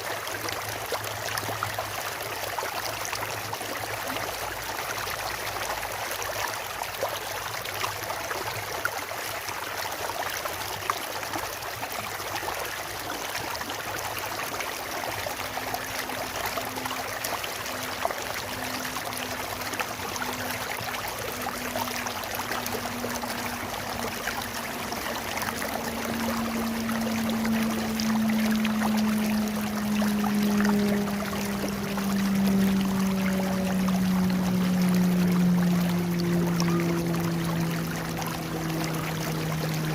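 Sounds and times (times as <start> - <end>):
low steady hum: 0.0 - 39.9
stream water over rocks: 0.0 - 39.9.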